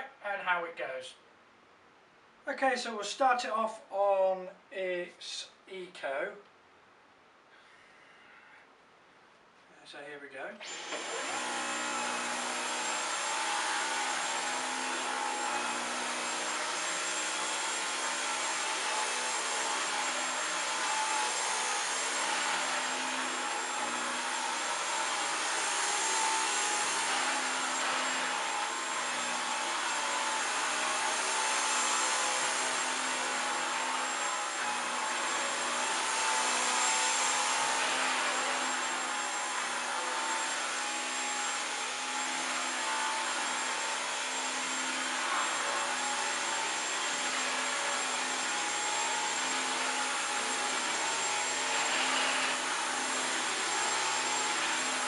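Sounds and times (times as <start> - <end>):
vacuum cleaner motor whine: 10.6 - 55.0.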